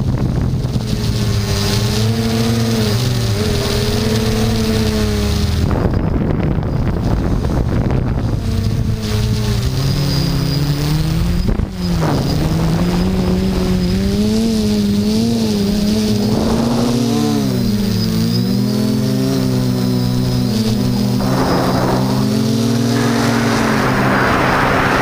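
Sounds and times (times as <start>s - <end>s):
quadcopter propellers whirring: 0.0s - 25.0s
wind on microphone: 0.0s - 25.0s.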